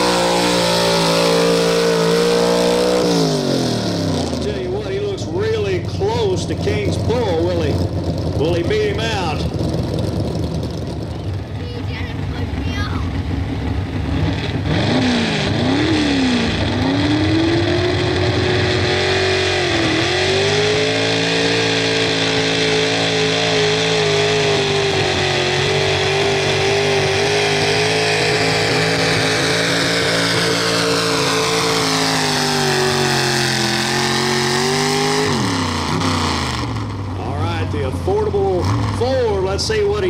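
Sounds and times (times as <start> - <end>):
truck engine at full throttle: 0.0 - 40.0.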